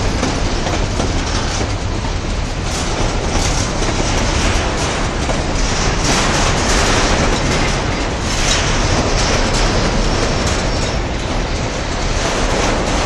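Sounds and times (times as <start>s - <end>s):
steel wheels clattering over rails: 0.0s - 13.0s.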